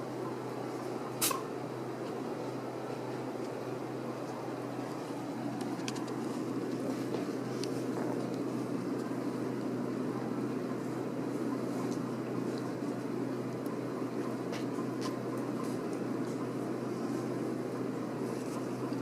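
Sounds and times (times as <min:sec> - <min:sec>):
low background hum and rumble: 0:00.0 - 0:19.0.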